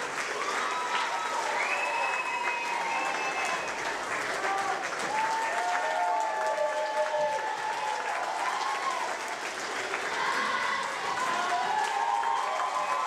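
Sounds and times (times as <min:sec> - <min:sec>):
audience applauding: 0:00.0 - 0:13.0
voices calling out and cheering: 0:00.0 - 0:13.0.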